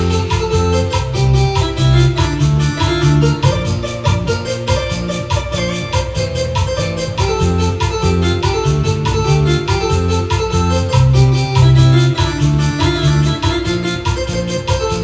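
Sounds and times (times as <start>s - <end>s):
fast percussion beat: 0.0s - 15.0s
moving bass line: 0.0s - 15.0s.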